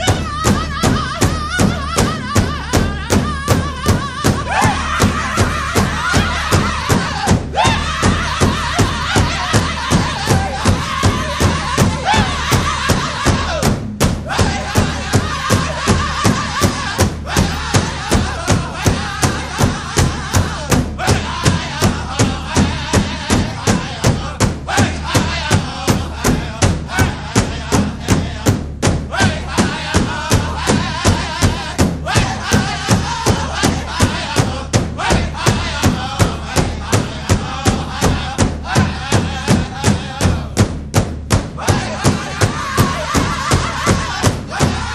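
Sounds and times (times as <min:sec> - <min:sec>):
voices chanting: 0:00.0 - 0:40.6, 0:41.5 - 0:44.9
steady drumbeat: 0:00.0 - 0:44.9.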